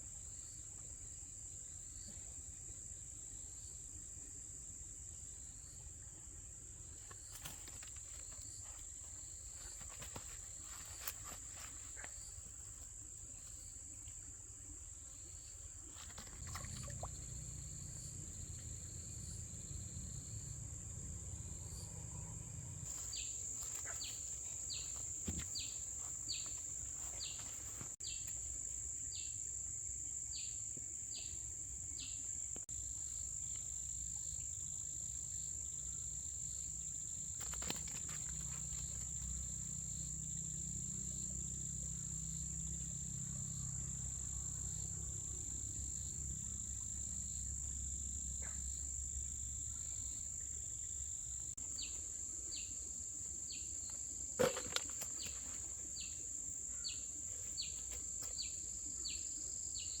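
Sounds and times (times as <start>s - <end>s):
insects chirring: 2.9s - 60.0s.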